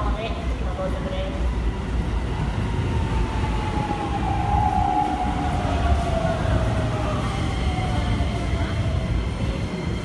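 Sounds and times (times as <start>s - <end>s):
wheels rumbling on rail: 0.0s - 10.0s.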